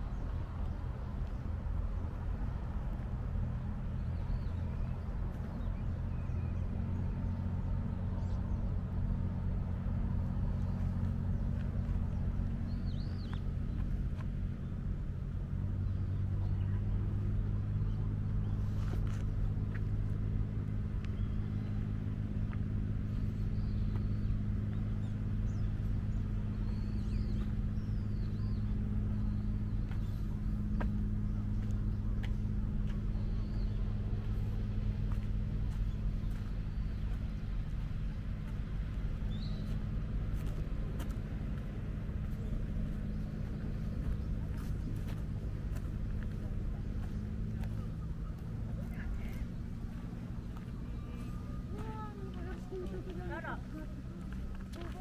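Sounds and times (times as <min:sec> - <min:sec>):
engine humming: 0:00.0 - 0:55.0.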